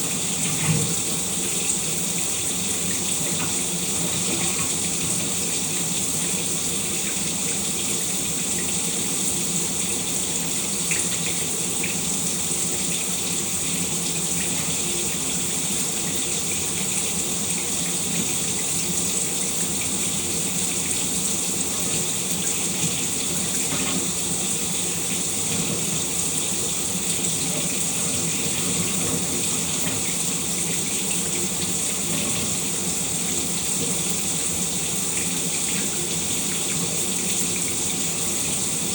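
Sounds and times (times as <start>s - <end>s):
shower running: 0.0s - 38.9s.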